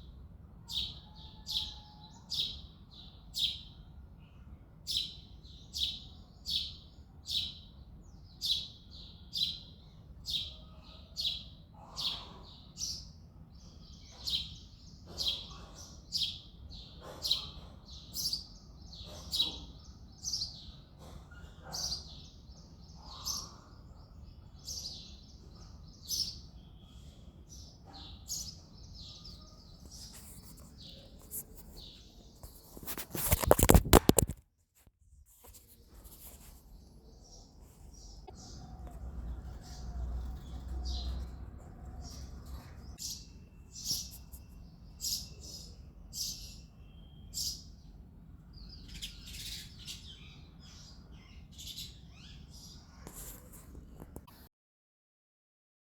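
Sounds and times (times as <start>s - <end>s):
sparrow chirping: 0.6s - 3.9s, 4.9s - 34.3s, 35.4s - 53.0s.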